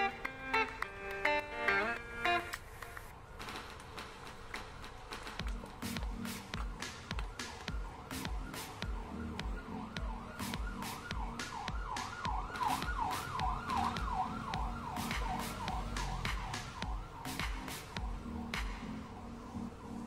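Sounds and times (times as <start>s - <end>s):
electronic music with steady beat: 0.0s - 20.0s.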